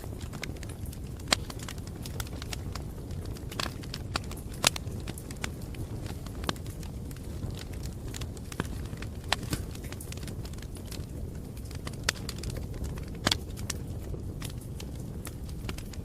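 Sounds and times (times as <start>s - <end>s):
campfire rumble: 0.0s - 16.0s
fire crackling and popping: 0.0s - 16.0s.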